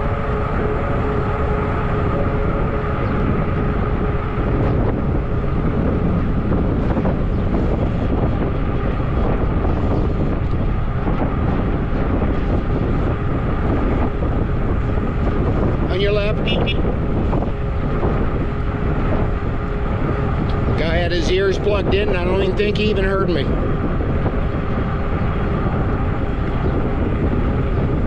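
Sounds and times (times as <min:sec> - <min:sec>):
bike tires rolling hum: 0:00.0 - 0:28.0
wind noise on microphone: 0:00.0 - 0:28.0.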